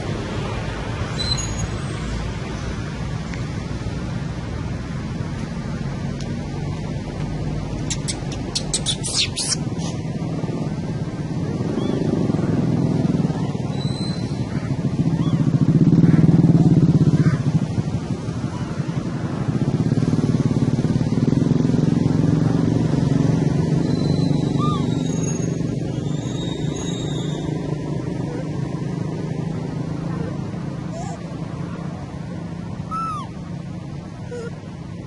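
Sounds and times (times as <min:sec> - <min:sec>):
motorcycle engines rumbling: 0:00.0 - 0:35.0.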